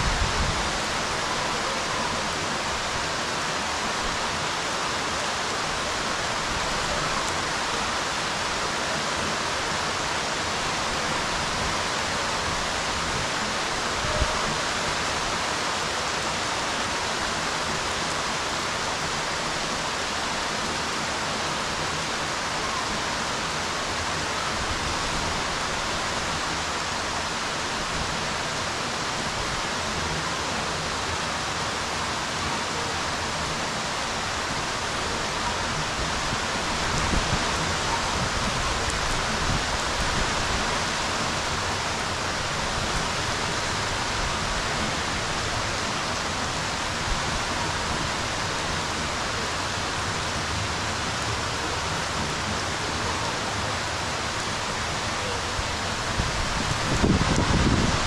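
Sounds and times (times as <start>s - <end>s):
rain on water surface: 0.0s - 58.0s.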